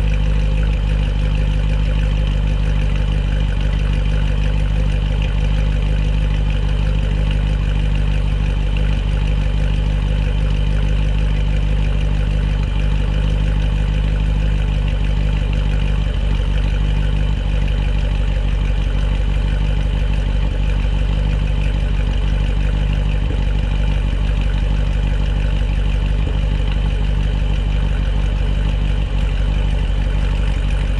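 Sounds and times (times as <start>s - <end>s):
car engine idling: 0.0s - 30.9s.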